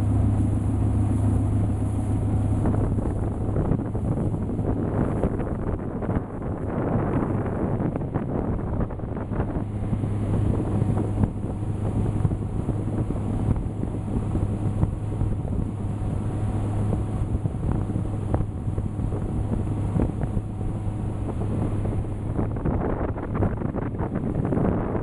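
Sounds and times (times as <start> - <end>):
speedboat engine droning: 0.0 - 25.0
water rushing from hull: 0.0 - 25.0
wind buffeting microphone: 0.0 - 25.0.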